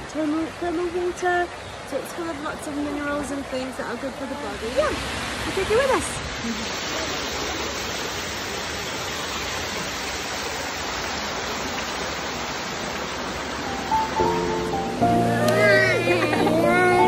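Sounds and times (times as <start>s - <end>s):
water cascading into a pool: 0.2s - 17.0s.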